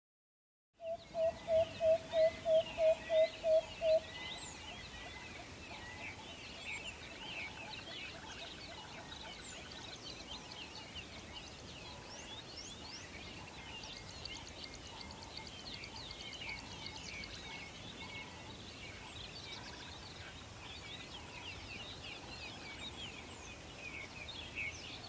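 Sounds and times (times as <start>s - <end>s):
small birds chirping: 0.8s - 25.0s.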